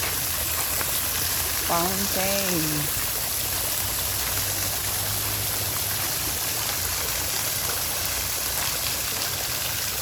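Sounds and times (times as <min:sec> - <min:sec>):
water fountain splashing: 0:00.0 - 0:10.0.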